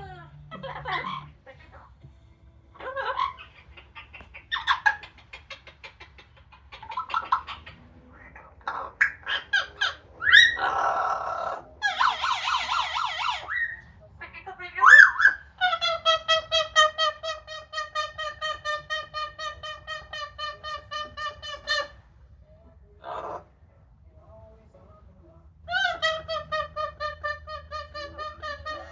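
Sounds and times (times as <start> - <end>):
parrot squawking and calling: 0.4 - 1.5, 2.8 - 22.0, 23.0 - 23.5, 25.7 - 28.9.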